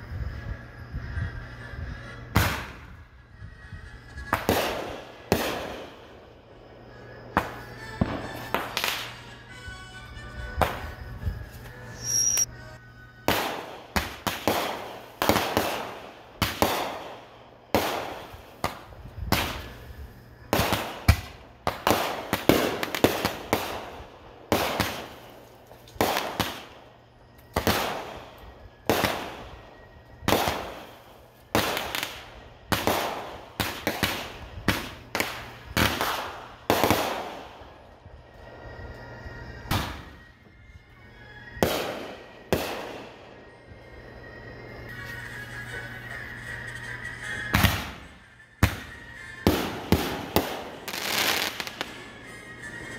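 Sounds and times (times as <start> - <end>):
fireworks bangs: 1.1 - 9.6, 13.3 - 38.8, 39.5 - 40.4, 41.5 - 43.6, 46.4 - 52.9.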